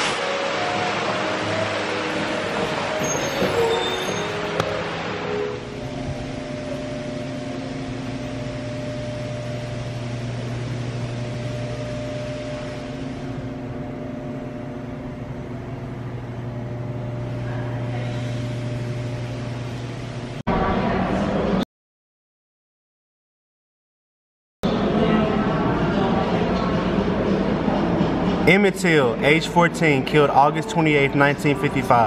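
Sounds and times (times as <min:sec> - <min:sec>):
low machine hum: 0:00.1 - 0:21.6, 0:24.6 - 0:32.0.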